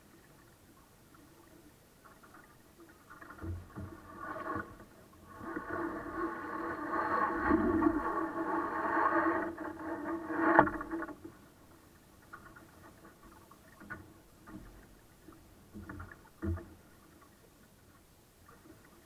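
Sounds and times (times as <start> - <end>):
water washing along hull: 0.0 - 19.0.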